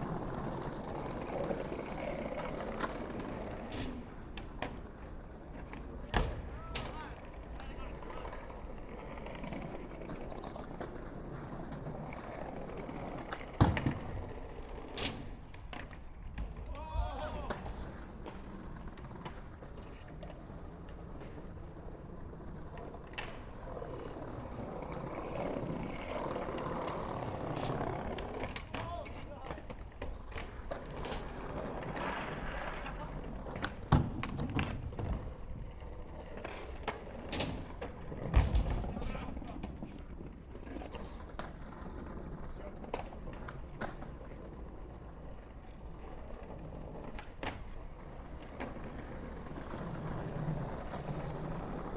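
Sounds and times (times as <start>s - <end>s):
skateboard clack: 0.0s - 51.9s
skateboard rolling on pavement: 0.0s - 51.9s.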